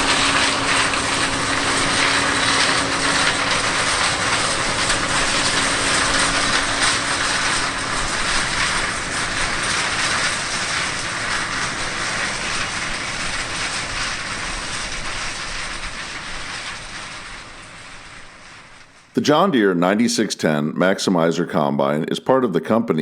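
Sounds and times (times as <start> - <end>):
combine harvester mechanical rushing: 0.0 - 20.6.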